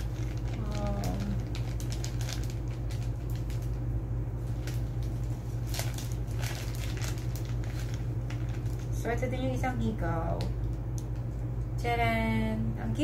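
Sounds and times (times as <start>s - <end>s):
plastic packet rustling: 0.0s - 11.3s
steady low hum: 0.0s - 13.0s.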